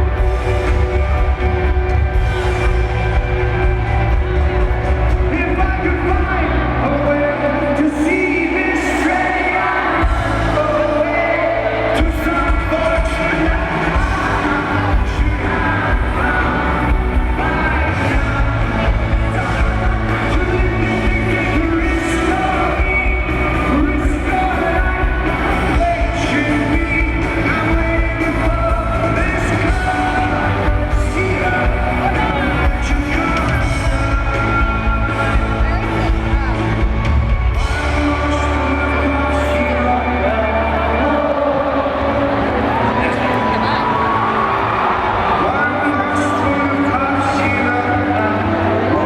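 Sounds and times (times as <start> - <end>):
heavy bass and drums: 0.0 - 8.2, 8.9 - 42.8
lead vocalist singing: 0.0 - 49.0
live rock band playing: 0.0 - 49.0.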